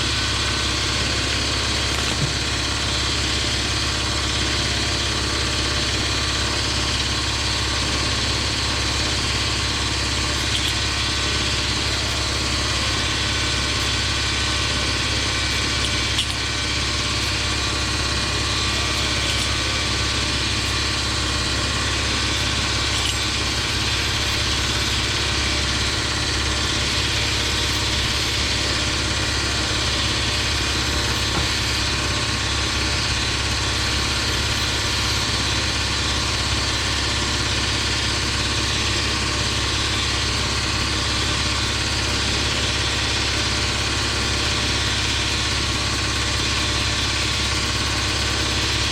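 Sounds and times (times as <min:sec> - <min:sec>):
machine drone with low hum: 0:00.0 - 0:48.9.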